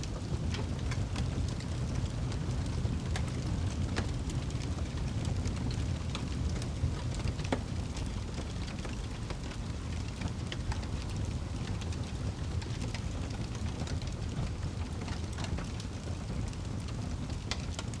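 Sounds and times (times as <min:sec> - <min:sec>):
wood fire crackling in fireplace: 0:00.0 - 0:18.0.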